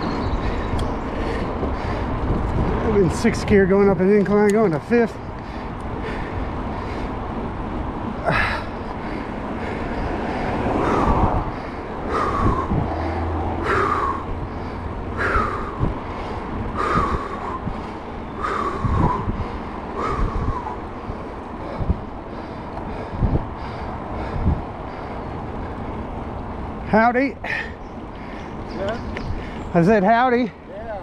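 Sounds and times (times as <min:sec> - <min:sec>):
highway traffic noise: 0:00.0 - 0:31.0.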